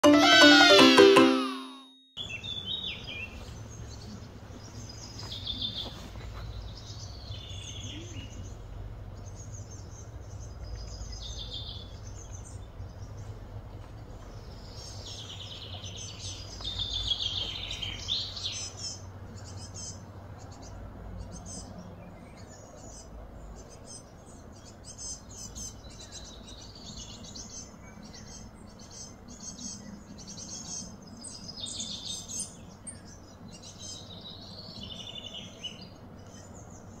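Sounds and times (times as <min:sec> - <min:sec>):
birds chirping and trilling: 0:02.2 - 0:13.4, 0:14.0 - 0:37.0.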